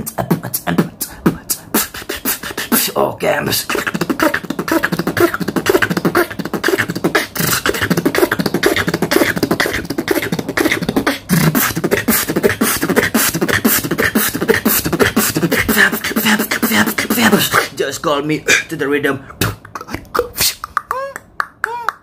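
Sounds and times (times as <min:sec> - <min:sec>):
man beatboxing: 0:00.0 - 0:22.0.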